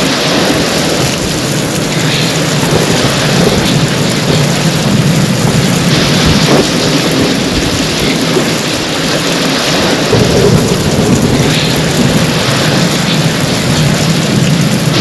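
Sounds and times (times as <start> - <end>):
heavy rain pouring: 0.0 - 15.0
low rumble of thunder: 0.0 - 15.0.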